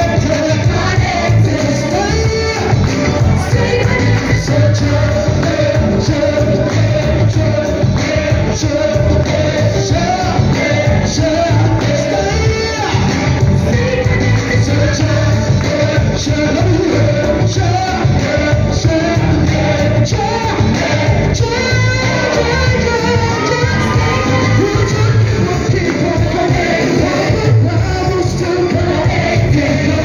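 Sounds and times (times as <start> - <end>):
drum kit steady beat: 0.0 - 30.0
electric guitar: 0.0 - 30.0
singers singing into microphones: 0.0 - 30.0.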